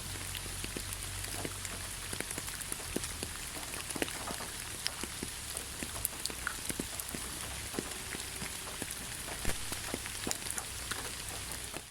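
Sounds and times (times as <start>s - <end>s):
rain hiss: 0.0s - 11.9s
raindrops hitting close by: 0.0s - 11.9s.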